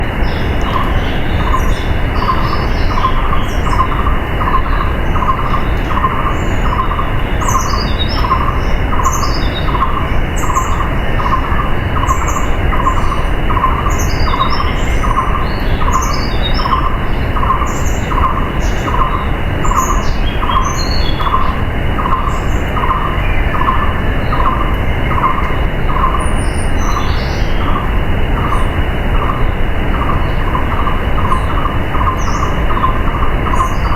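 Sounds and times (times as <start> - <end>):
birds chirping: 0.0 - 33.9
regular pulsing call: 0.0 - 33.9.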